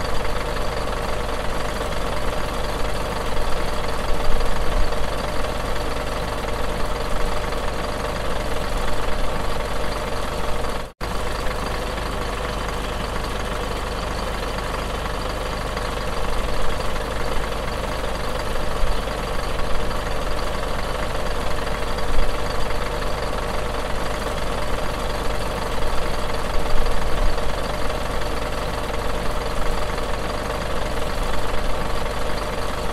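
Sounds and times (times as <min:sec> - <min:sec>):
bus engine idling: 0:00.0 - 0:32.9.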